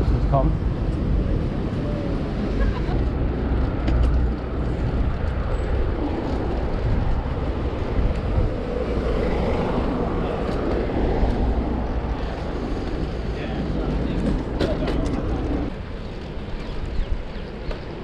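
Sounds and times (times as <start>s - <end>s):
city road traffic rumble: 0.0s - 18.0s
wind buffeting microphone: 0.0s - 18.0s.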